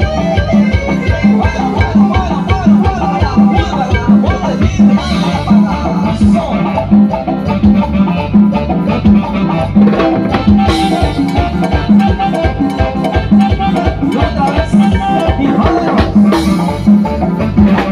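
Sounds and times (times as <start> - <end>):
live latin dance band: 0.0 - 17.9.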